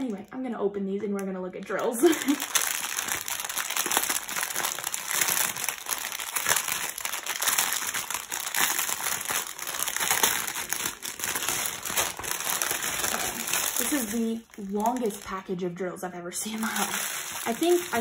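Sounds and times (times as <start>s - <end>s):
plastic packaging crinkling: 1.6s - 15.5s, 16.4s - 18.0s.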